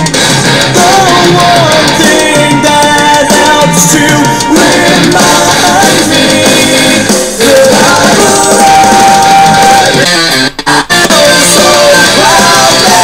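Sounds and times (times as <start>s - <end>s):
music with singing and percussion: 0.0s - 13.0s.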